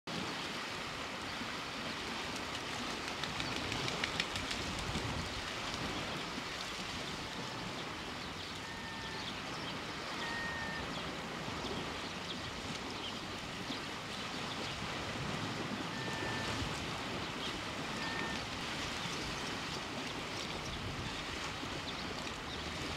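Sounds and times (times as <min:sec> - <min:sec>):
small waves lapping on rocks: 0:00.1 - 0:22.9.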